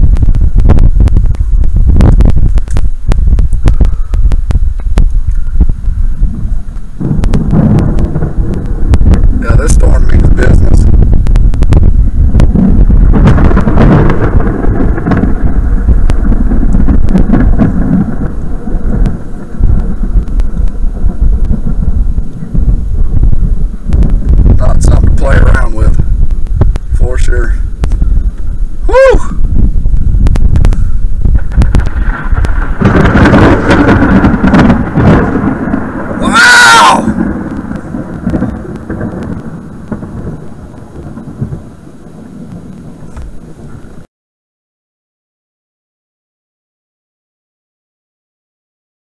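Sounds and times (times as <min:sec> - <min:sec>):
thunder rumbling: 0:00.0 - 0:44.1.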